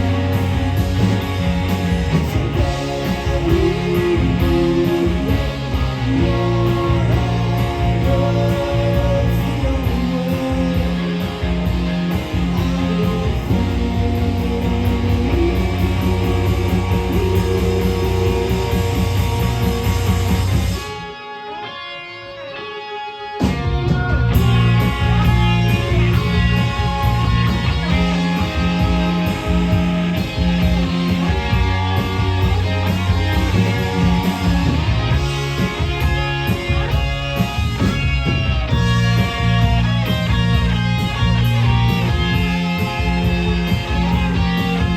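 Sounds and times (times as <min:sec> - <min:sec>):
electric guitar ringing: 0:00.0 - 0:44.9
live rock band playing: 0:00.0 - 0:44.9.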